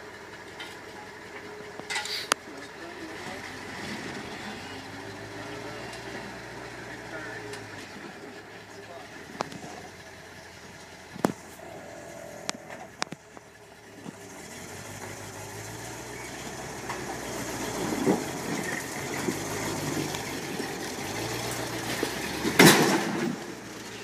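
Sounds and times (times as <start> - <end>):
pickup engine running at low speed: 0.0 - 24.0
tyres and chassis crunching on rock: 1.9 - 24.0.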